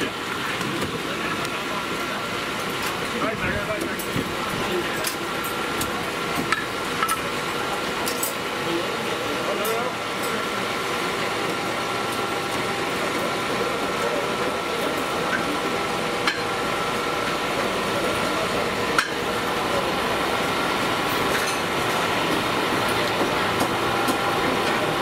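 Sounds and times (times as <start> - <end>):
busy street stall hum: 0.0 - 25.0.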